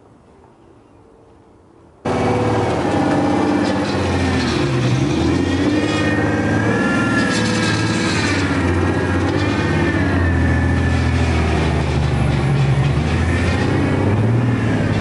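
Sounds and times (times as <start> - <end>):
car engine passing: 2.1 - 15.0
high tyre squeal: 2.1 - 15.0.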